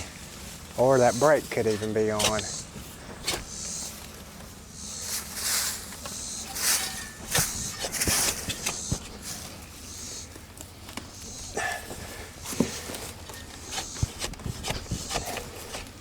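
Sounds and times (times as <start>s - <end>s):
rustling and crunching: 0.0s - 16.0s.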